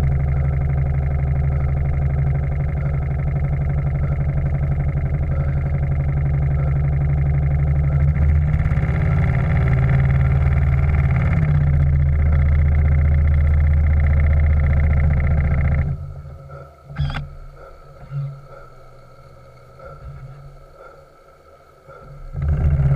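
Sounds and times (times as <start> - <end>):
steam engine running: 0.0 - 22.9.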